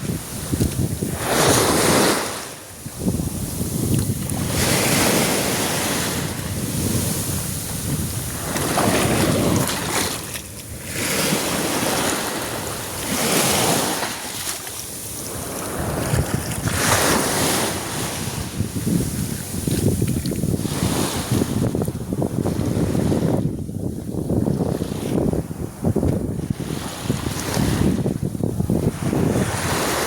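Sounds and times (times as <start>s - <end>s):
wind buffeting microphone: 0.0s - 14.2s, 15.2s - 30.0s
sea waves washing onto beach: 0.0s - 30.0s.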